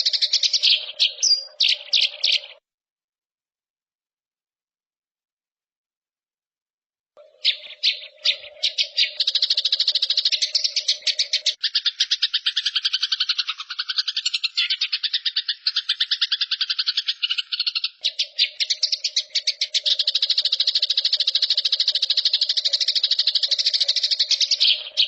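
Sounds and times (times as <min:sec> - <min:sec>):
songbird rapid trill: 0:00.0 - 0:02.6, 0:07.2 - 0:25.0.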